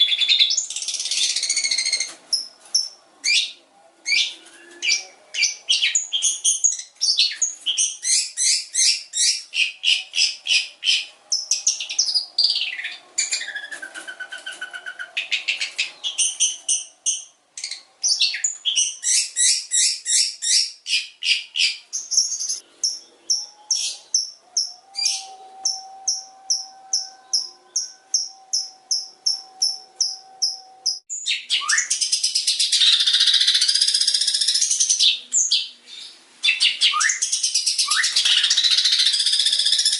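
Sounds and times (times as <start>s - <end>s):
shrike singing varied song: 0.0s - 39.9s.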